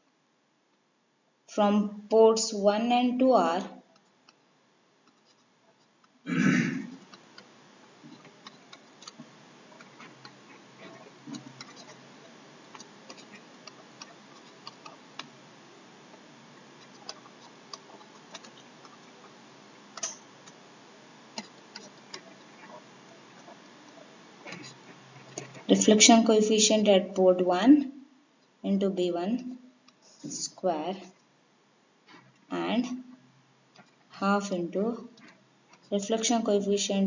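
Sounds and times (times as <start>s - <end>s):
steady hiss: 0.0s - 27.0s, 29.3s - 36.6s.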